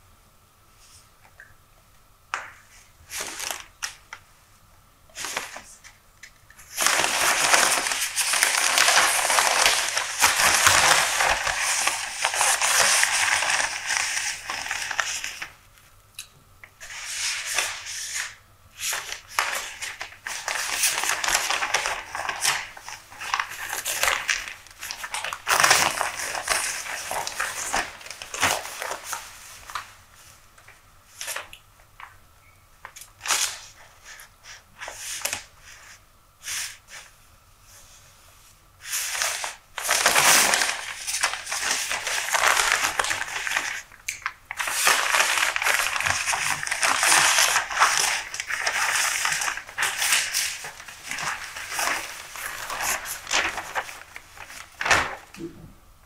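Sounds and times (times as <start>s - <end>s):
newspaper pages rustling: 2.7s - 4.2s, 6.6s - 15.6s, 16.8s - 32.1s, 32.8s - 37.1s, 38.8s - 55.4s.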